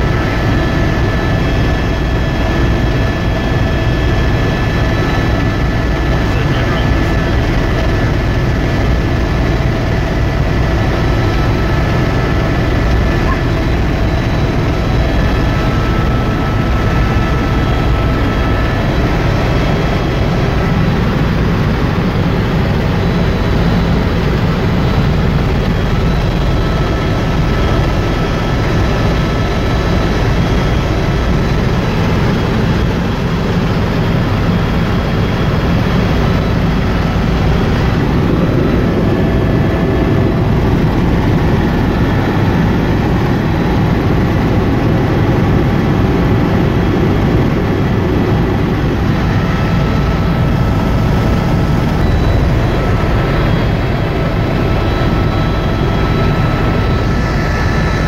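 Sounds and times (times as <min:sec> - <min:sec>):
helicopter engine and rotor drone: 0:00.0 - 0:58.0
faint high whine: 0:00.1 - 0:58.0.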